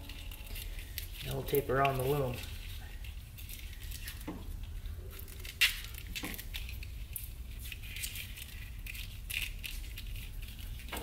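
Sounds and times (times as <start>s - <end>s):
electrical tape crackling: 0.0s - 11.0s.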